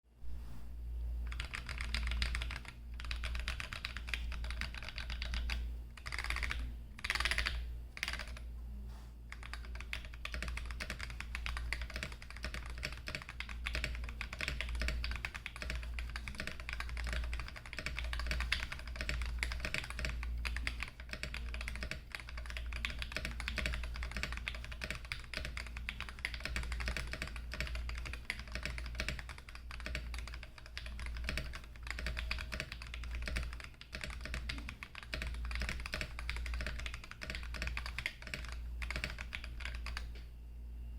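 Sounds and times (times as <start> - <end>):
low steady hum: 0.1 - 40.9.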